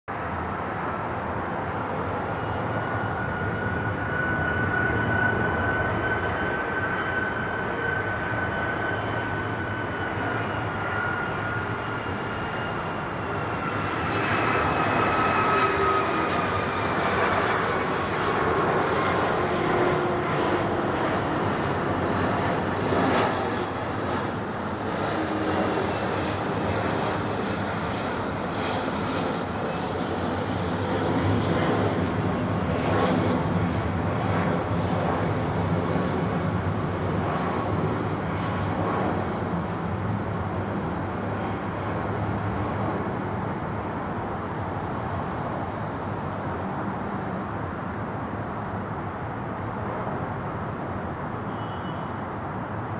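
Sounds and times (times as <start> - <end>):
jet airliner roaring with whine: 0.1 - 52.9.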